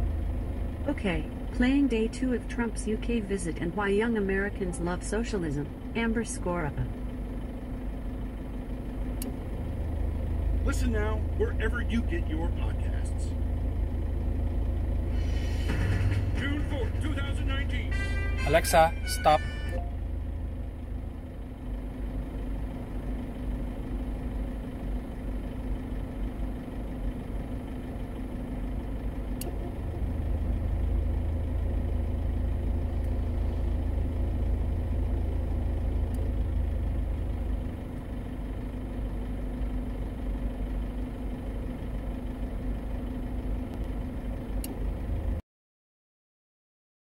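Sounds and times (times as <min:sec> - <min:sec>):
car cabin rumble: 0:00.0 - 0:45.4.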